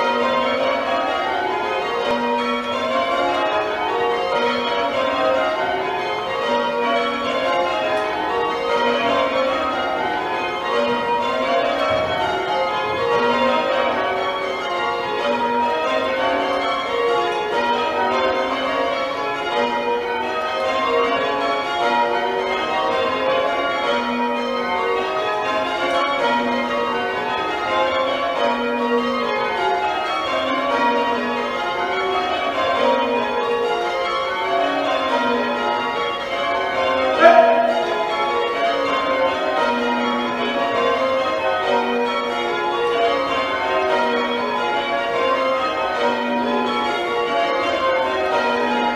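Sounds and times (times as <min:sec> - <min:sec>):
tower bells ringing: 0:00.0 - 0:48.9.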